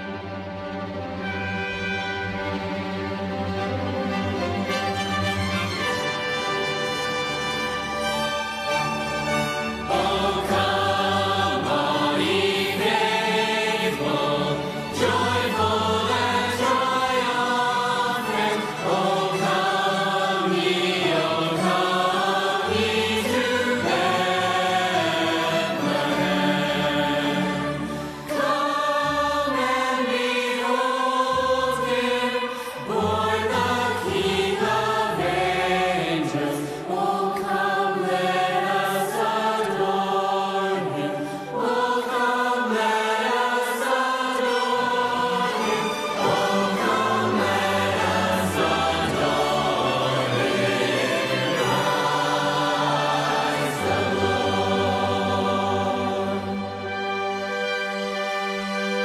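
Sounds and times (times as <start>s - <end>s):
choir singing with accompaniment: 0.0s - 59.0s.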